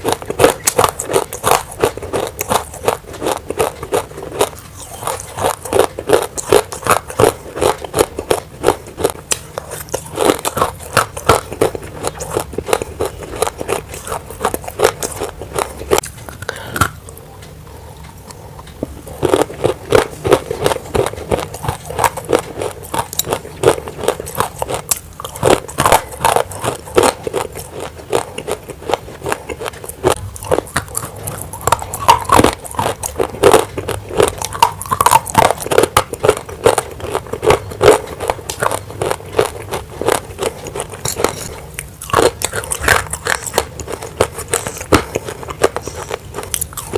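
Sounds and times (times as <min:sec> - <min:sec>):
crunching of clay being chewed: 0:00.0 - 0:46.9.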